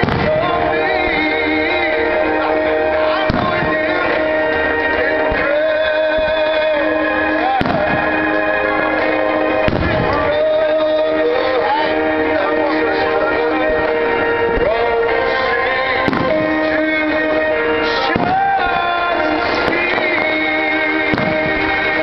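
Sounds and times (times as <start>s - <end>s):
fireworks bursting: 0.0s - 12.0s, 12.7s - 22.0s
music with singing: 0.0s - 22.0s.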